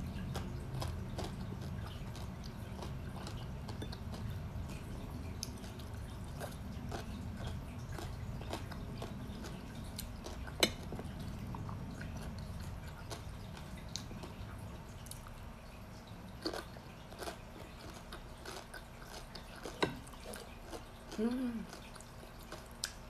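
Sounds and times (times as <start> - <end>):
person chewing food: 0.0 - 15.5, 16.2 - 23.0
steady low hum: 0.0 - 23.0.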